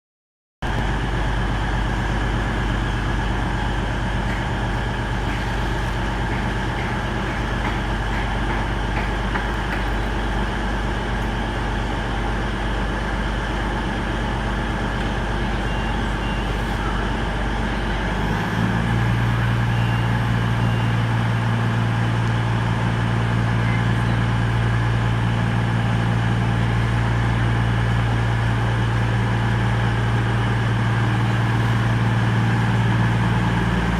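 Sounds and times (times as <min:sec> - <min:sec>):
diesel train engine running: 0:00.6 - 0:33.9.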